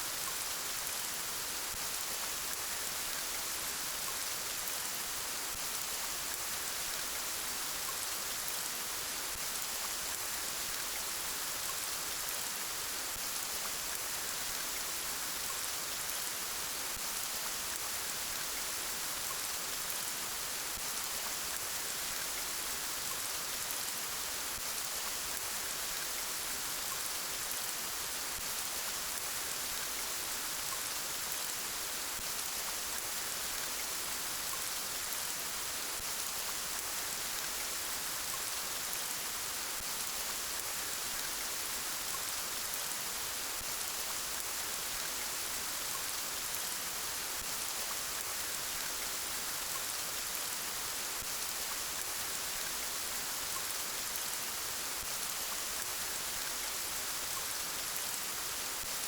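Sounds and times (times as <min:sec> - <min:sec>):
gentle rain: 0:00.0 - 0:59.0.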